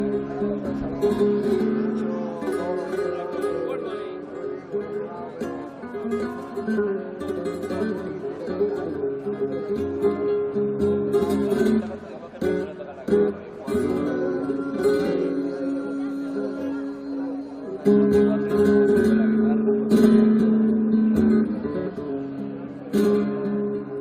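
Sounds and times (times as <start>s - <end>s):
flamenco guitar playing: 0.0s - 24.0s.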